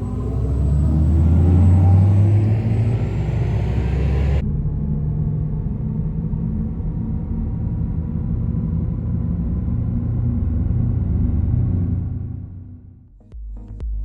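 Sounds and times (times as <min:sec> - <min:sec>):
low electronic hum: 0:00.0 - 0:13.1.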